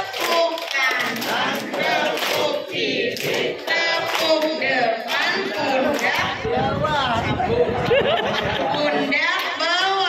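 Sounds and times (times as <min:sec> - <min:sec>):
people clapping in rhythm: 0:00.0 - 0:07.1, 0:08.3 - 0:10.0
group of voices singing: 0:00.0 - 0:10.0.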